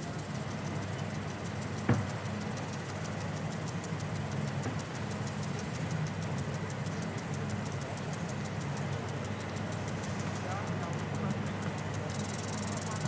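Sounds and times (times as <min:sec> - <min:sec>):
fast regular ticking: 0:00.0 - 0:13.0
low mechanical hum: 0:00.0 - 0:13.0.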